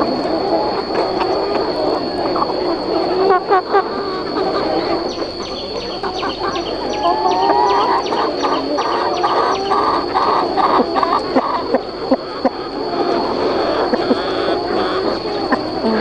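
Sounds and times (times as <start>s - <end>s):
chickens clucking: 0.0s - 16.0s
high-pitched whine: 0.0s - 16.0s
chicken repeating a call: 0.2s - 16.0s.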